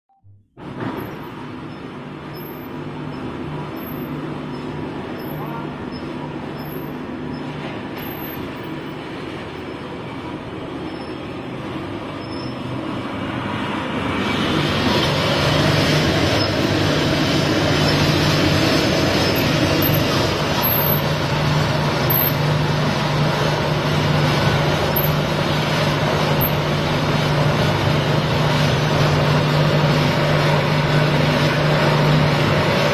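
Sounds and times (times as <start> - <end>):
grinding machine humming: 0.6 - 32.9.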